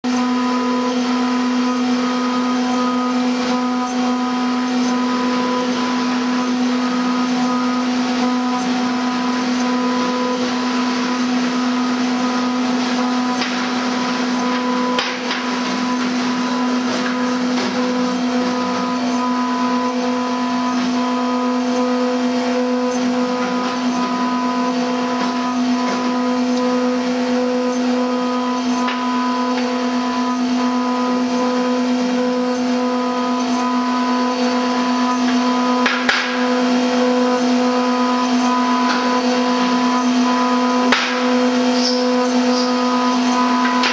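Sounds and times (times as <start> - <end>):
milling machine whine and hiss: 0.1 - 43.9.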